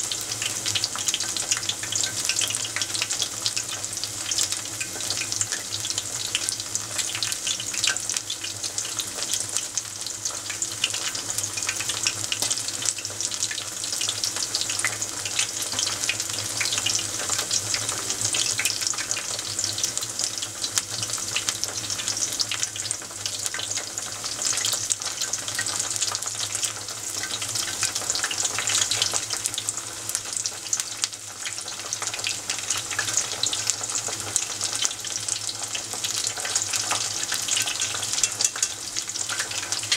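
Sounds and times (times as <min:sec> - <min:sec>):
crackling deep-frying sizzle: 0:00.0 - 0:39.9.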